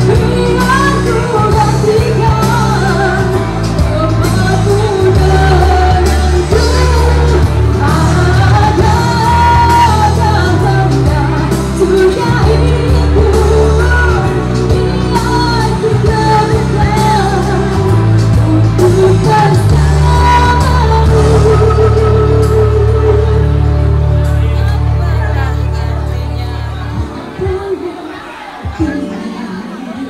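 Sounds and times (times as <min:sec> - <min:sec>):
karaoke backing track: 0:00.0 - 0:30.0
woman singing into microphone: 0:00.0 - 0:30.0.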